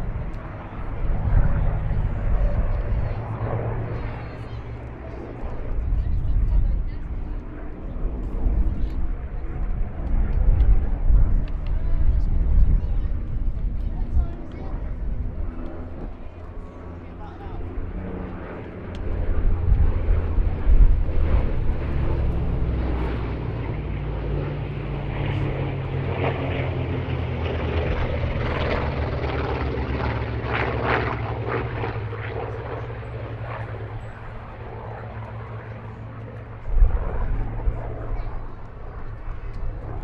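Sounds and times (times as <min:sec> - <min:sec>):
propeller aircraft engine drone: 0:00.0 - 0:40.0.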